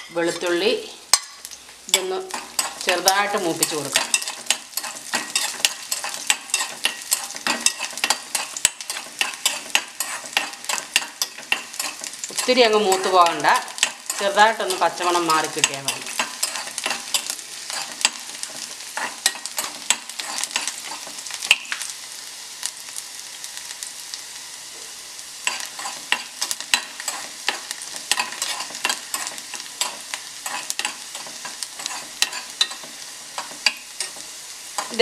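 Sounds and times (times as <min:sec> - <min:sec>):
metal spoon scraping pan: 0:00.0 - 0:21.7, 0:25.4 - 0:35.0
sizzling in oil: 0:00.0 - 0:35.0.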